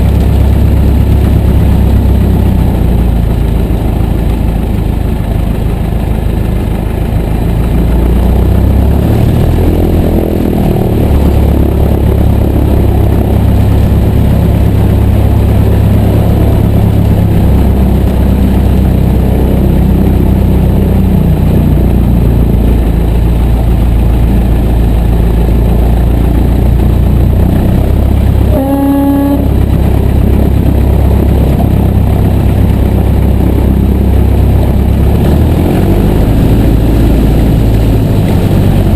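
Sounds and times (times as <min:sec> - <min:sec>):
higher whine: 0:00.0 - 0:38.9
small plane engine droning: 0:00.0 - 0:38.9.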